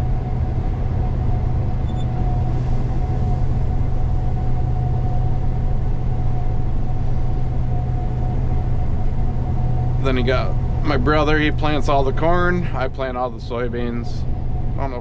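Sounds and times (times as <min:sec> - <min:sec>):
combine harvester drone: 0:00.0 - 0:15.0
steady mechanical whine: 0:00.0 - 0:15.0.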